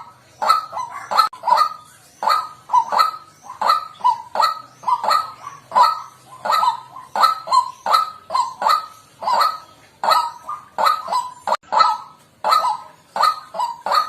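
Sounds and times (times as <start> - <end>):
waterhen calling harsh honking notes: 0.0 - 14.0.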